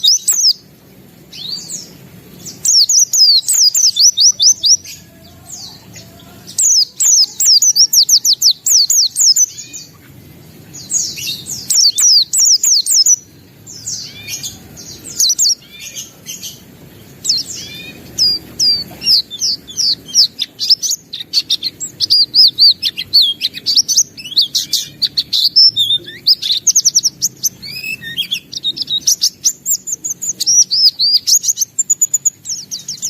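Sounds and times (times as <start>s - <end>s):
bird singing high chirps: 0.0s - 33.0s.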